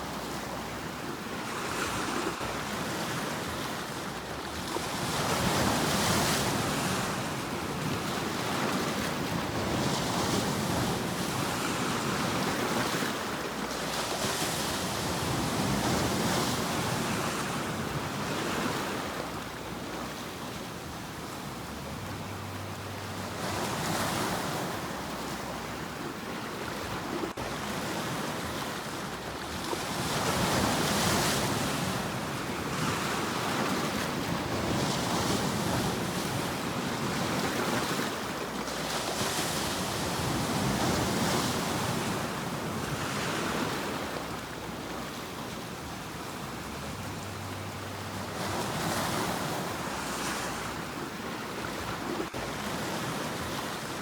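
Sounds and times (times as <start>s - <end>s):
ocean waves breaking on shore: 0.0s - 54.0s
wind: 0.0s - 54.0s.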